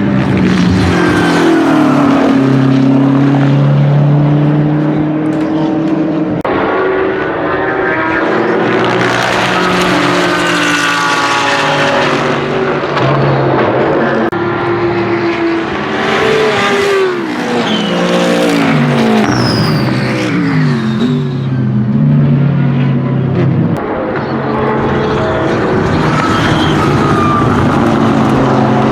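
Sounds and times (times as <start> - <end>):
race car engine downshifting: 0.0 - 28.9.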